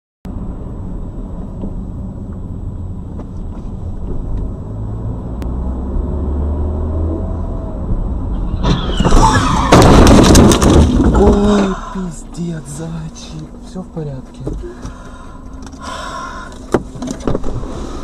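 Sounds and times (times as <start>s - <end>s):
car engine and road rumble: 0.2s - 18.0s.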